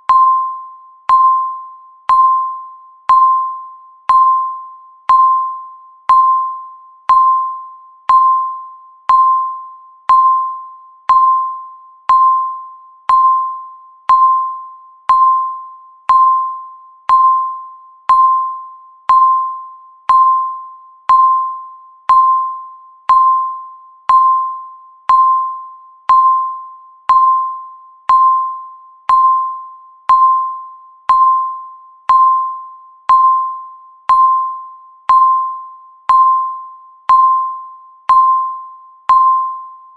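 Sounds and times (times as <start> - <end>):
countdown timer ding: 0.0 - 39.7.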